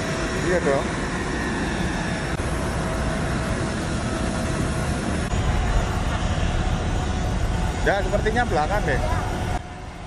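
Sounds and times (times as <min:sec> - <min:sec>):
faint steady whine: 0:00.0 - 0:10.0.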